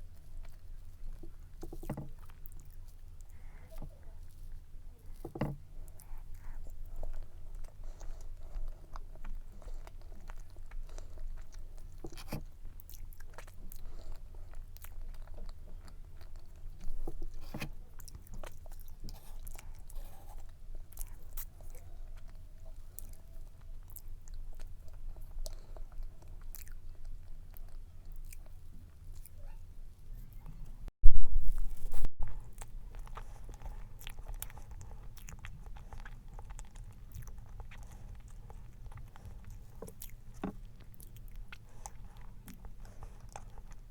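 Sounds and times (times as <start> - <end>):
chewing cake: 0.0 - 30.9, 31.5 - 43.9.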